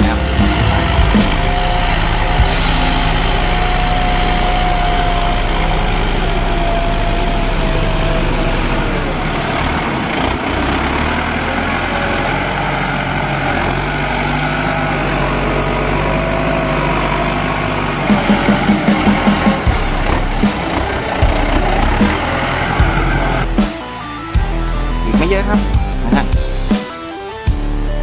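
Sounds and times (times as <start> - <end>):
tractor diesel engine running: 0.0 - 27.4.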